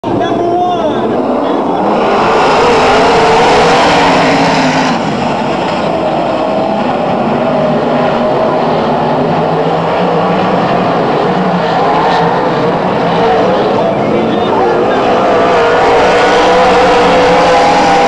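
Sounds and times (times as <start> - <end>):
race car engines at full throttle: 0.0 - 18.0.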